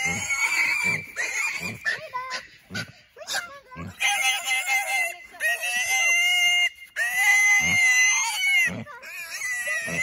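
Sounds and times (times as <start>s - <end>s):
pig squealing: 0.0s - 10.0s.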